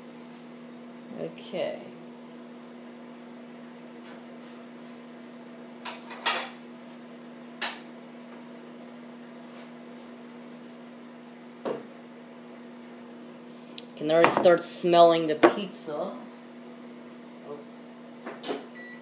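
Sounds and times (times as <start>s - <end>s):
microwave oven humming: 0.0s - 19.0s.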